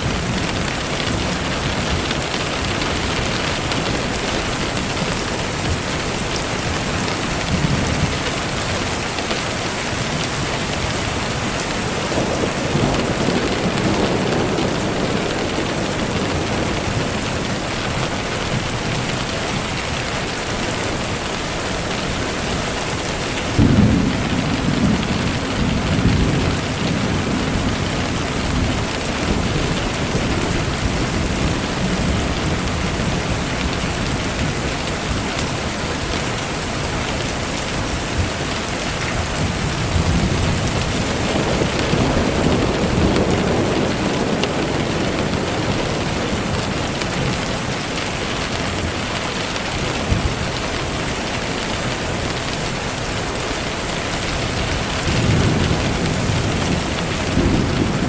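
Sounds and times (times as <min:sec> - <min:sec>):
steady rain falling: 0:00.0 - 0:58.0
thunder rumbling: 0:00.0 - 0:58.0.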